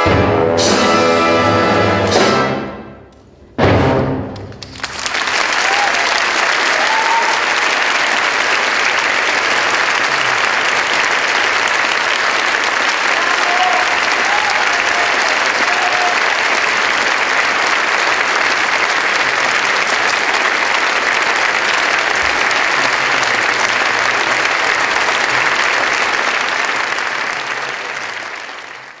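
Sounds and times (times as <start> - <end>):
audience applauding: 4.4 - 29.0.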